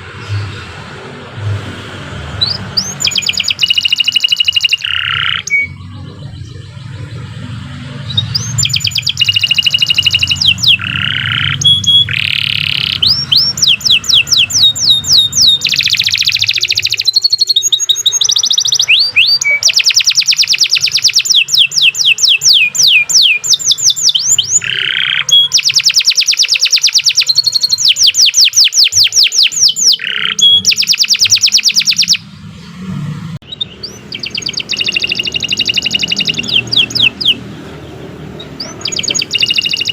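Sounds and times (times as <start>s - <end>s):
canary singing trills: 0.0s - 32.4s, 33.4s - 39.9s.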